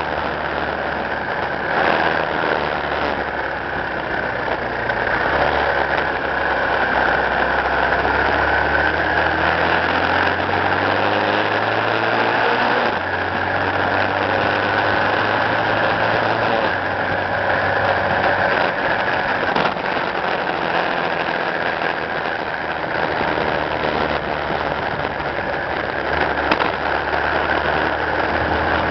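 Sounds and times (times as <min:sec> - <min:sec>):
road and wind noise: 0:00.0 - 0:28.9
vehicle engine running: 0:00.0 - 0:28.9.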